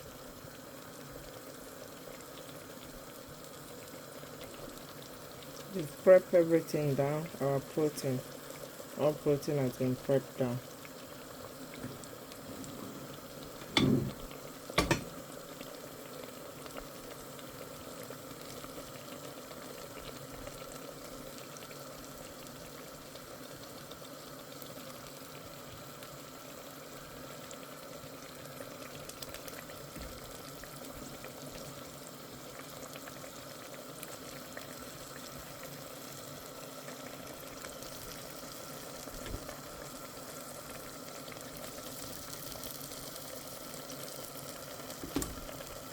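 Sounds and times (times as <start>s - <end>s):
pot boiling: 0.0s - 45.9s.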